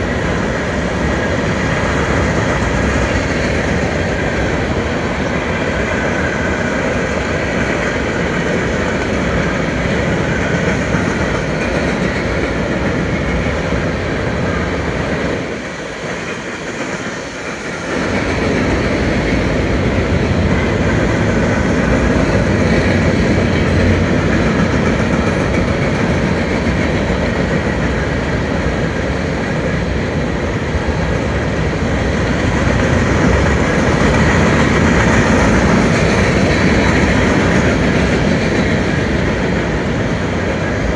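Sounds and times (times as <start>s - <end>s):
freight train rolling past: 0.0s - 40.9s.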